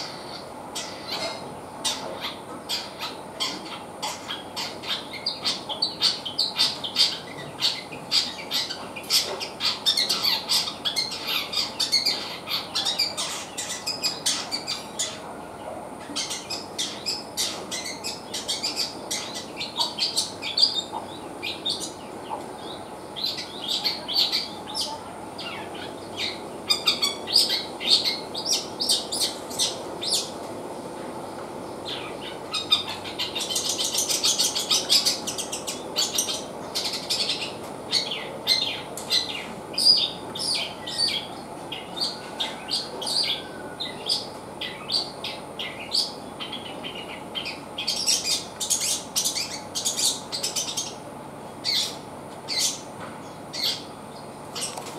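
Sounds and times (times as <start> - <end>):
bird chirping and trilling: 0.0 - 15.2, 16.2 - 30.4, 31.8 - 51.0, 51.6 - 54.8.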